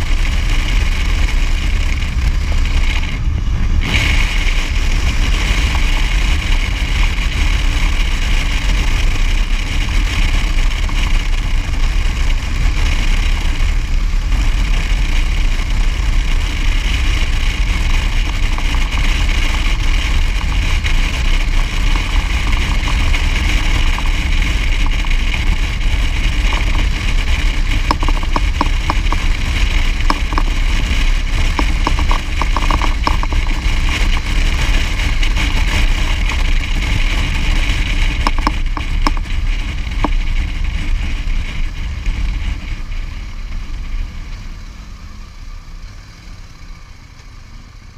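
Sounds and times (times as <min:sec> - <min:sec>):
wind rumble on microphone: 0:00.0 - 0:46.4
vehicle engine running: 0:00.0 - 0:47.9.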